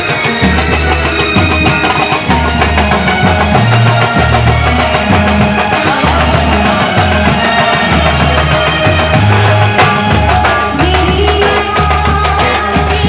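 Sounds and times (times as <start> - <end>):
banjo melody: 0.0 - 13.0
heavy steady drumming: 0.0 - 13.0.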